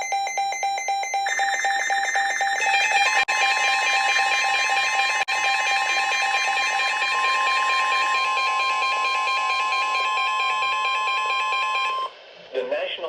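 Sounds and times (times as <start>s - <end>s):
rapid pulsed beep: 0.0s - 12.1s.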